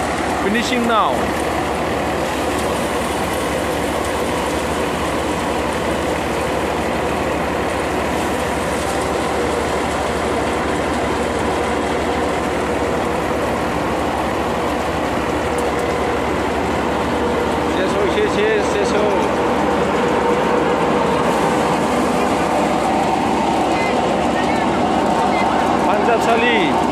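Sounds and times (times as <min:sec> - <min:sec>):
paddy thresher running: 0:00.0 - 0:26.9.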